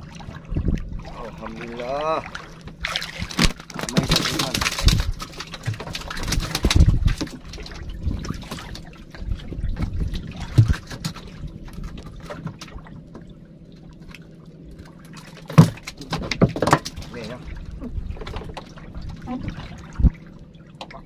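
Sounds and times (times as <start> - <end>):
water slapping against a boat: 0.0 - 21.0.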